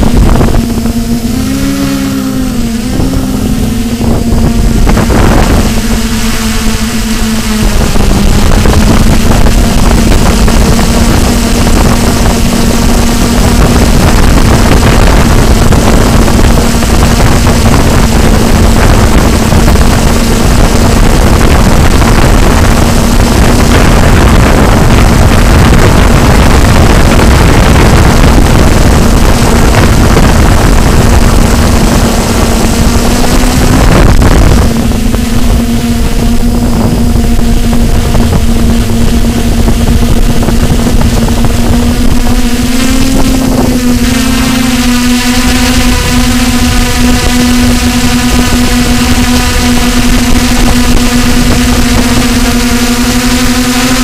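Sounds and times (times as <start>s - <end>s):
loud rushing noise: 0.0s - 47.3s
drone propellers whining: 0.0s - 54.0s.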